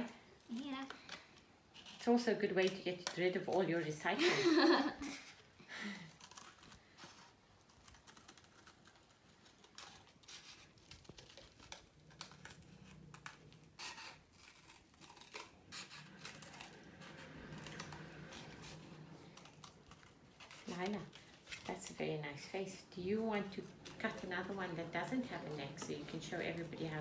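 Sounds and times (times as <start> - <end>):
cardboard rustling: 3.5 - 27.0
scissors cutting cardboard: 4.6 - 27.0.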